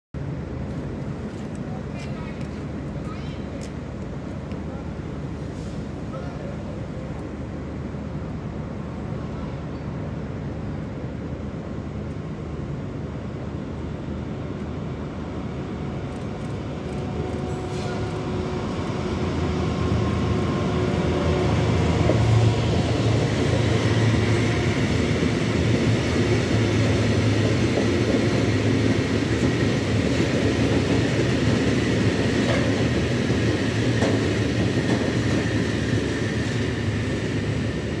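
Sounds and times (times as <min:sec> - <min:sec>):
freight train wheels rumbling: 0:00.2 - 0:38.0.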